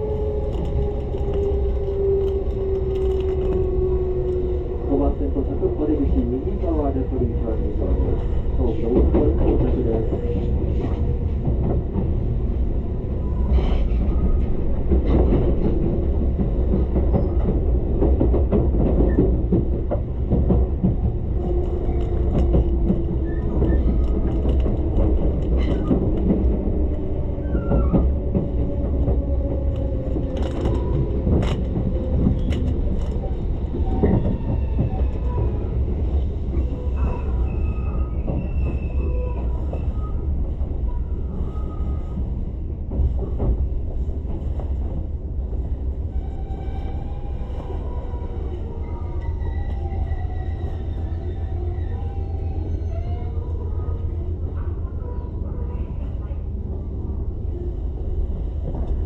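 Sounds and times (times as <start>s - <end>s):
train deep rumble: 0.0s - 59.0s.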